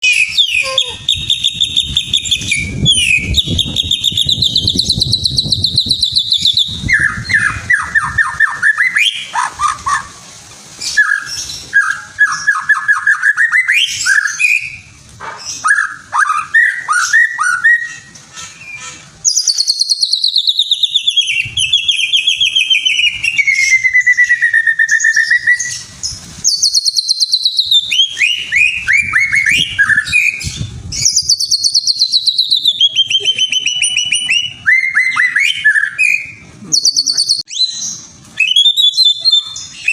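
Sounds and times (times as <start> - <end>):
songbird singing whistled trills: 0.0 - 9.9, 10.8 - 14.9, 15.6 - 39.9.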